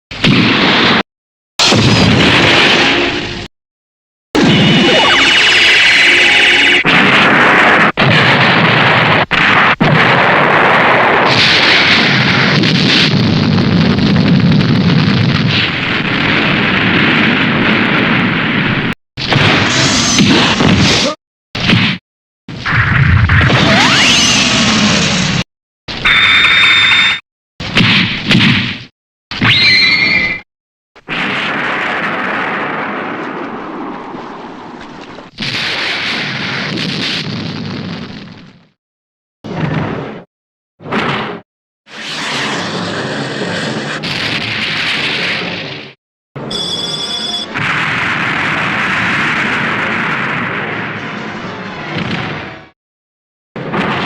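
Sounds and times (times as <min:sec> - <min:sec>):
explosion and fire blasts: 0:00.1 - 0:03.5, 0:04.4 - 0:25.5, 0:27.6 - 0:29.6, 0:31.0 - 0:38.8, 0:39.4 - 0:46.0, 0:47.5 - 0:52.8, 0:53.6 - 0:54.0.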